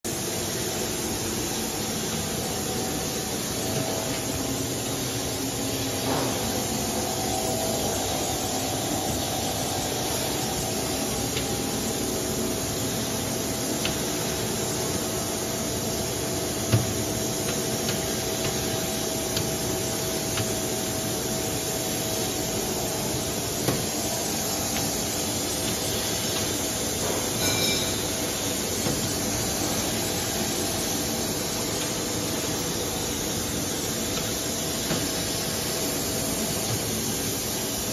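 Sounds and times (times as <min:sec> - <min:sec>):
machine motor hum and whirr: 0:00.1 - 0:37.9.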